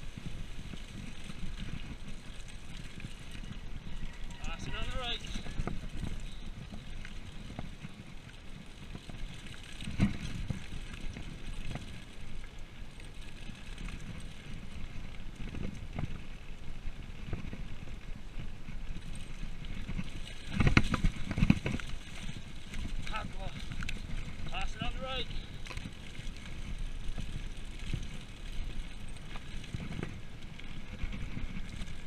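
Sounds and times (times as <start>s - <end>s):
bike jolting over bumps: 0.0s - 32.0s
bike tyres rattling over gravel: 0.0s - 32.0s.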